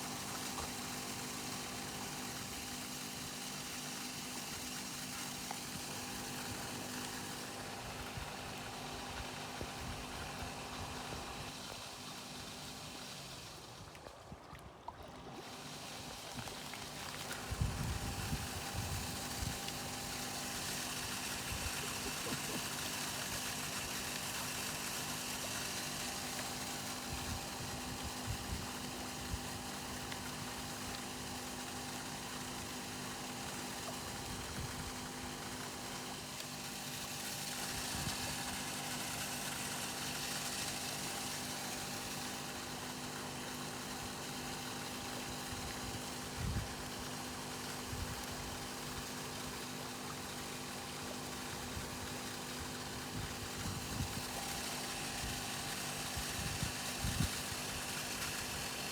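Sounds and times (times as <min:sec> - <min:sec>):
steady motor hum: 0:00.0 - 0:58.9.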